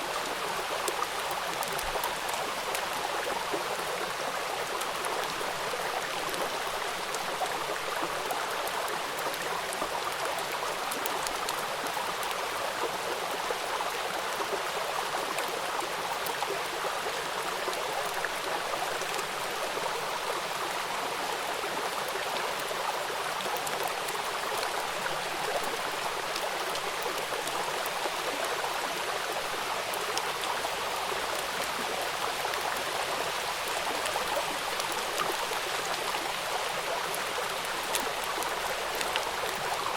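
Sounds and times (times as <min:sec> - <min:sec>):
rain falling on river: 0:00.0 - 0:39.9.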